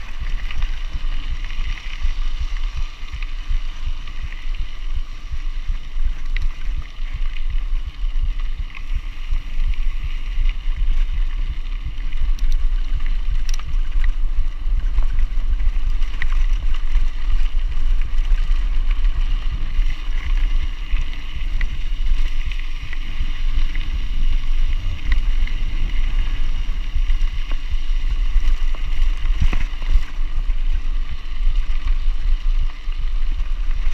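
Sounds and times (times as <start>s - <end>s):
tyres on gravel: 0.0s - 33.9s
wind on microphone: 0.0s - 33.9s.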